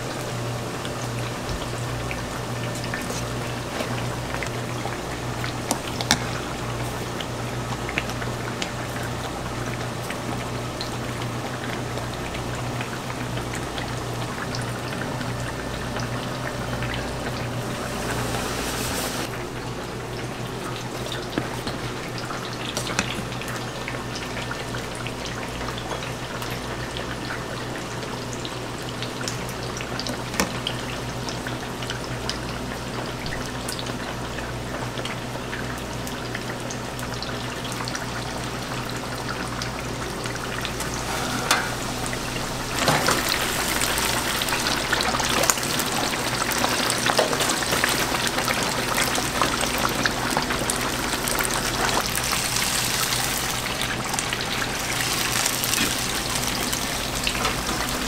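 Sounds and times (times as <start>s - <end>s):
cutlets sizzling in fryer oil: 0.0s - 58.0s.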